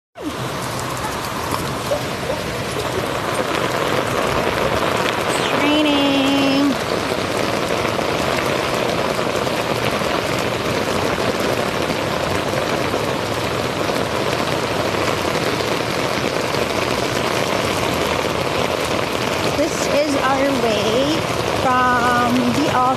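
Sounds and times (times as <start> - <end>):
rain falling on wet ground: 0.2 - 22.9.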